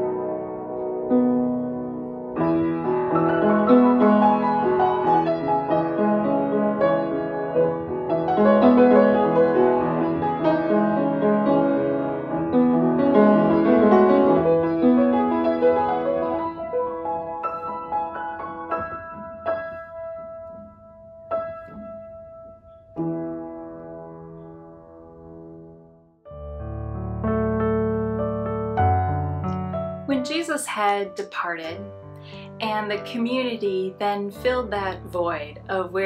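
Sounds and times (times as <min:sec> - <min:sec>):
slow solo piano piece: 0:00.0 - 0:31.1.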